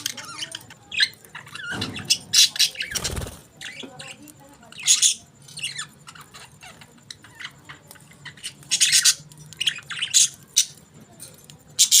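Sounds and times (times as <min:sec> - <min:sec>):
budgies chirping and squawking: 0:00.0 - 0:10.8, 0:11.8 - 0:12.0.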